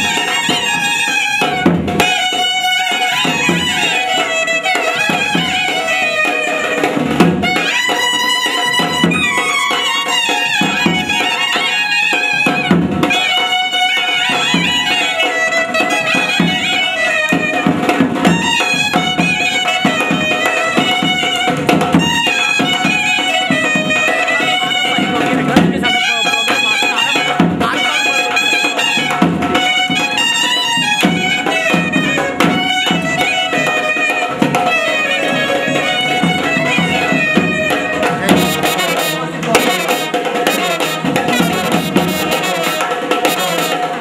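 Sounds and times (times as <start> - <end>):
brass band playing: 0.0 - 44.0
clarinet melody: 0.0 - 44.0
drum beat: 0.0 - 44.0.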